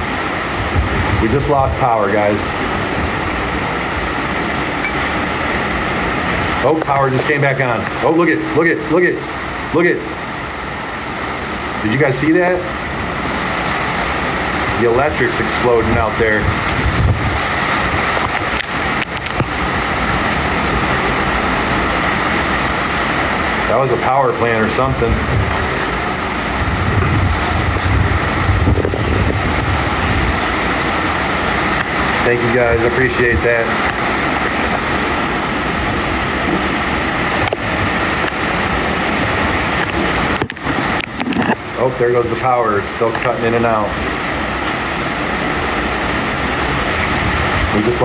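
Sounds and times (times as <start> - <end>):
hurricane wind blowing: 0.0 - 48.0.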